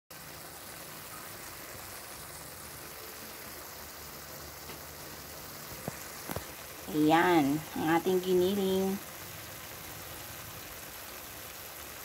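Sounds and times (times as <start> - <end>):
meat and onion sizzling in a wok: 0.1 - 12.0.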